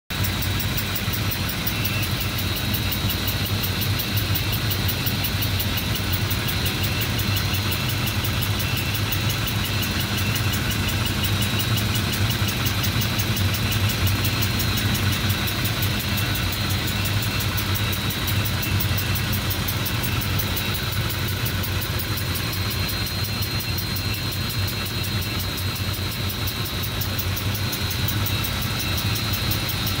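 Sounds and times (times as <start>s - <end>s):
model steam engine clattering: 0.1s - 30.0s
steady hum: 0.1s - 30.0s.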